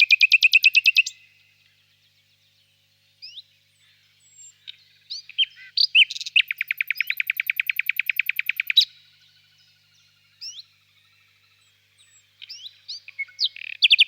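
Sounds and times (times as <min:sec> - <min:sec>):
nightingale singing: 0:00.0 - 0:14.0.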